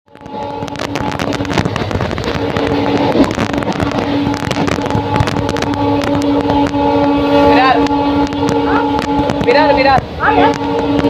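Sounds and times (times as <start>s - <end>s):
diesel locomotive passing: 0.1s - 11.0s.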